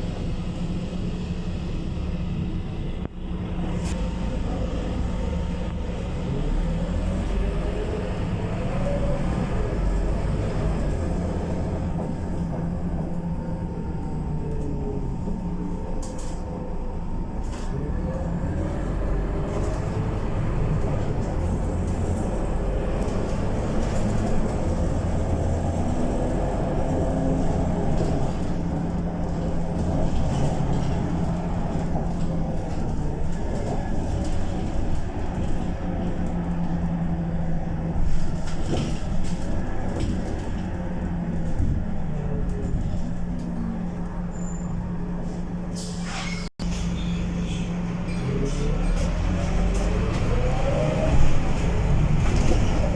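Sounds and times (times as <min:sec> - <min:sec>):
bus diesel engine: 0:00.0 - 0:52.9
road and body rattle: 0:00.0 - 0:52.9.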